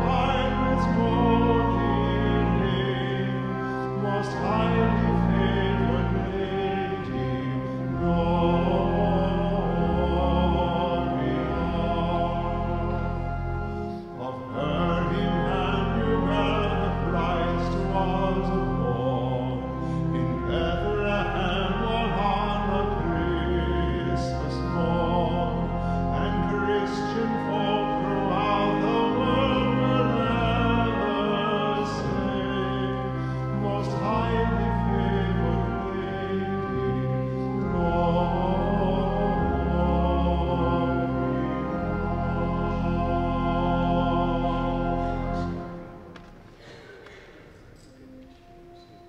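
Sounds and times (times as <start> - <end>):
person singing a hymn: 0.0 - 49.0
pipe organ: 0.0 - 49.0.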